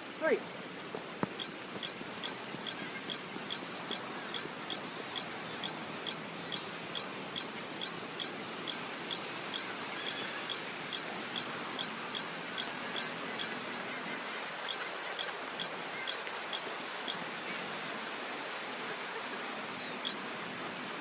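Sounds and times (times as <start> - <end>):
outdoor hiss: 0.0 - 21.0.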